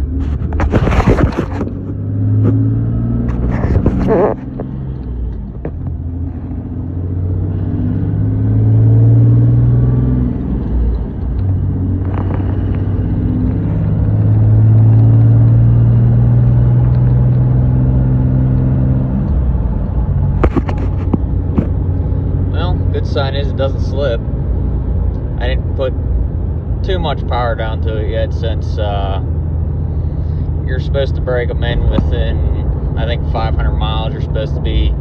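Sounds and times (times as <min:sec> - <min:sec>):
diesel truck engine accelerating: 0:00.0 - 0:35.0.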